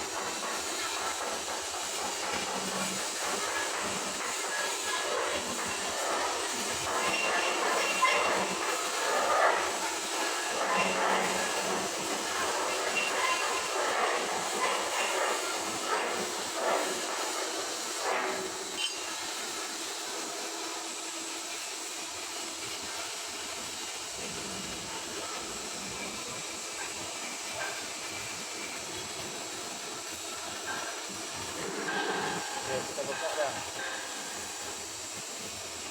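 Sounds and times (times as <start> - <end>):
welding arc crackling hiss: 0.0 - 35.9.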